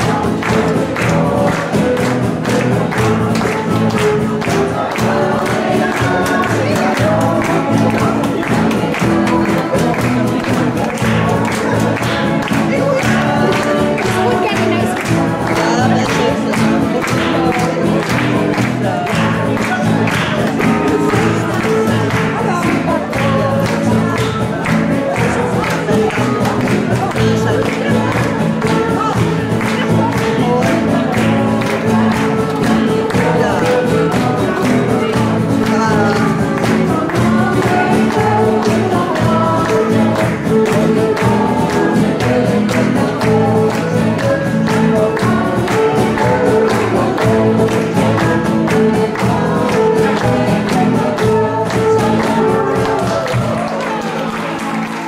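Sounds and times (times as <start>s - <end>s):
woman singing: 0.0s - 54.6s
live band playing: 0.0s - 55.0s.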